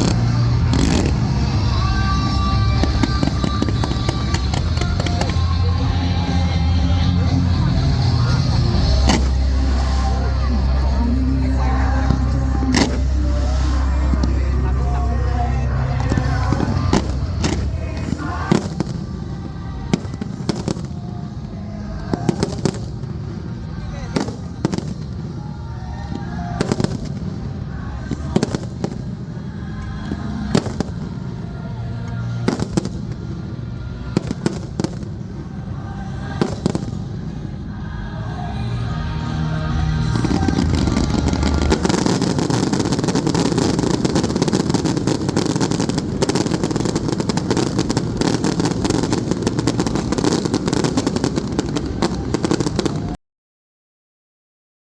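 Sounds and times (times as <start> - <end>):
fireworks banging: 0.0 - 37.7, 39.6 - 53.2
show music: 0.0 - 53.2.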